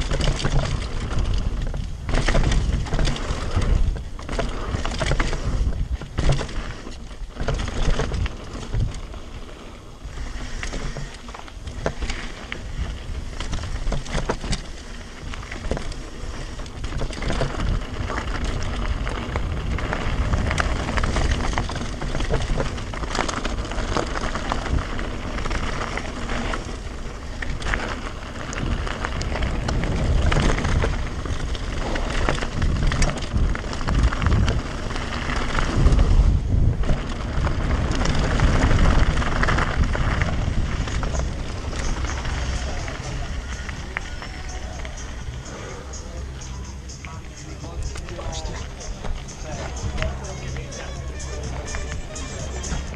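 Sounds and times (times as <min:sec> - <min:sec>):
bike rattling and clicking: 0:00.0 - 0:52.9
tyres rolling over dirt and stones: 0:00.0 - 0:52.9
wind buffeting microphone: 0:00.0 - 0:52.9.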